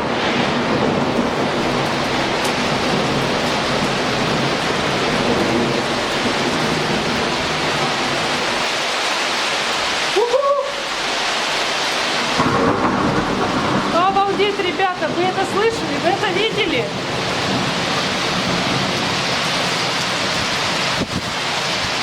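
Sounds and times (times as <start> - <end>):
thunder: 0.0 - 8.8, 12.1 - 22.0
heavy rain pouring: 0.0 - 22.0.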